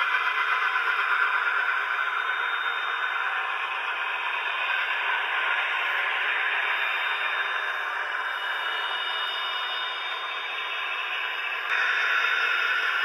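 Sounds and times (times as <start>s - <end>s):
model locomotive diesel engine sound: 0.0s - 13.0s.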